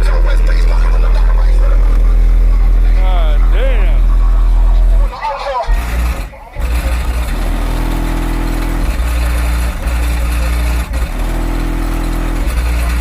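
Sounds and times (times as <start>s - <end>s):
car subwoofers playing deep bass: 0.0s - 13.0s.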